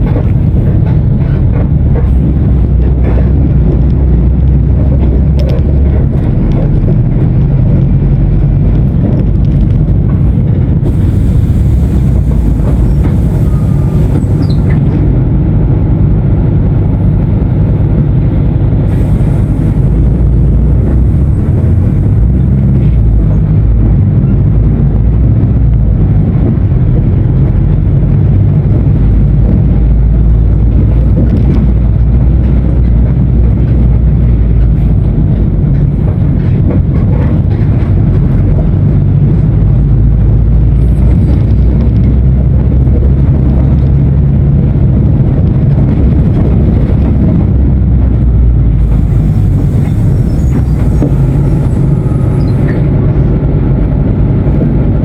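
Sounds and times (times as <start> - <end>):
bus diesel engine droning: 0.0 - 55.0.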